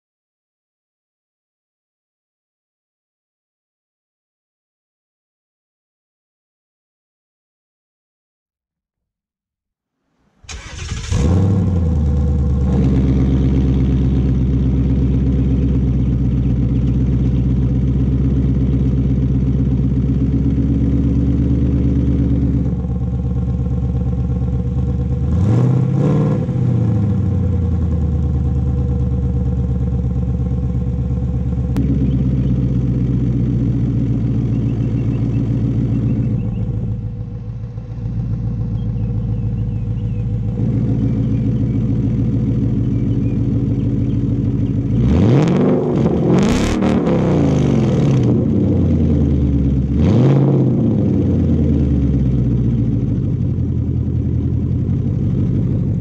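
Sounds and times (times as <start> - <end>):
car engine starting and idling: 10.4 - 56.0
engine rev: 10.4 - 56.0.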